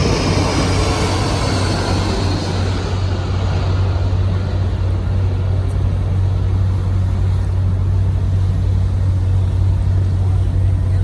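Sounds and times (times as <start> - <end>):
boat engine low drone: 0.0 - 11.0.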